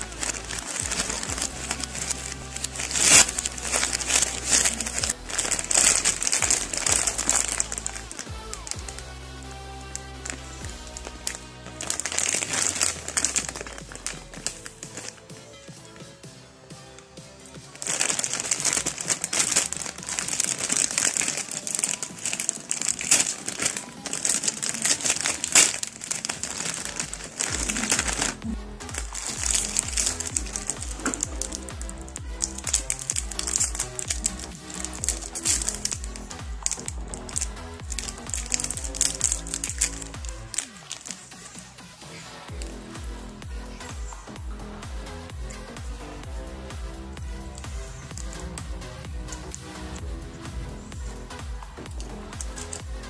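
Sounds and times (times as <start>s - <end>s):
plastic bag crinkling: 0.0s - 15.2s, 17.7s - 42.8s, 47.3s - 50.1s, 51.8s - 53.0s.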